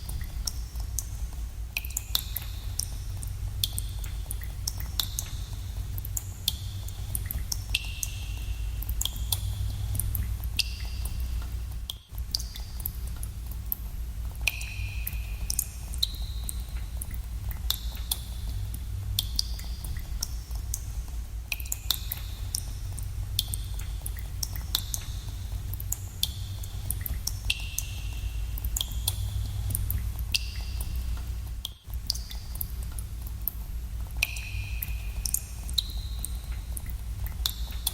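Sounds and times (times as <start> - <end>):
water dripping into pools: 0.0 - 37.9.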